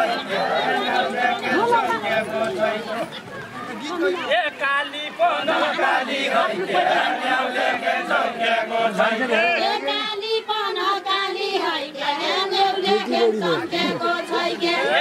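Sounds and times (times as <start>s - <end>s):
group singing unaccompanied folk song: 0.0s - 3.4s, 4.2s - 15.0s.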